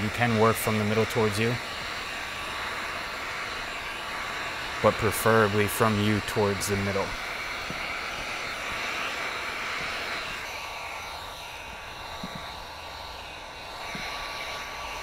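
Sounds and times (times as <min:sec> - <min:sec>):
heat gun fan blowing: 0:00.0 - 0:15.0.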